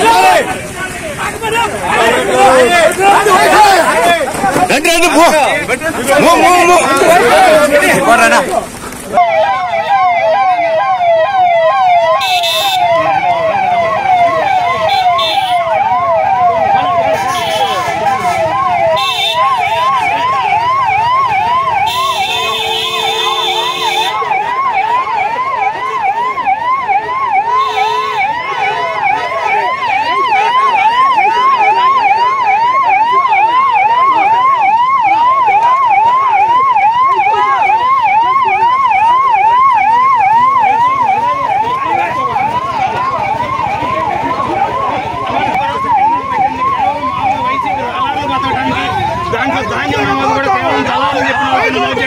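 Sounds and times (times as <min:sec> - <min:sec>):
siren yelping: 0:00.0 - 0:52.0.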